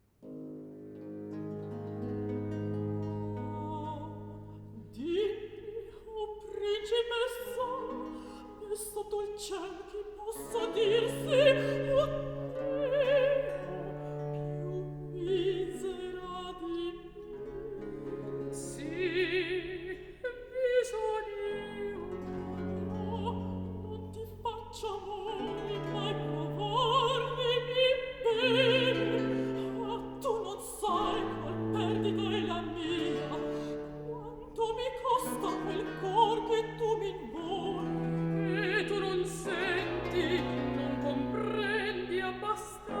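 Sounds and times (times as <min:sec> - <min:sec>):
classical instrumental accompaniment: 0:00.2 - 0:04.9, 0:10.1 - 0:19.9, 0:21.5 - 0:43.0
operatic singing: 0:02.3 - 0:43.0.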